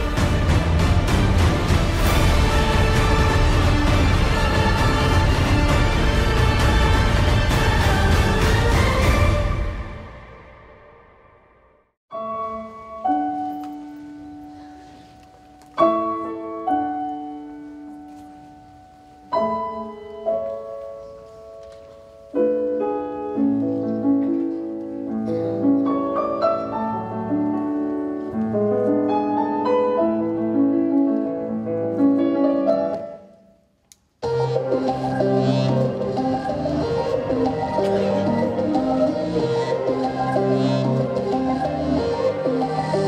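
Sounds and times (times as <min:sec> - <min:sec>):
piano music: 0:00.0 - 0:11.3, 0:12.1 - 0:33.6, 0:34.2 - 0:43.0.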